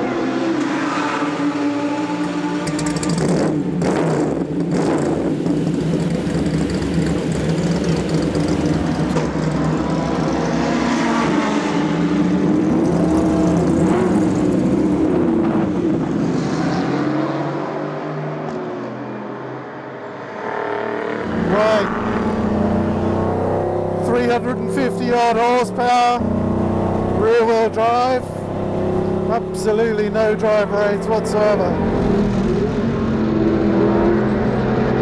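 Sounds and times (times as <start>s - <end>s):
car engine revving: 0.0s - 18.4s, 20.4s - 35.0s.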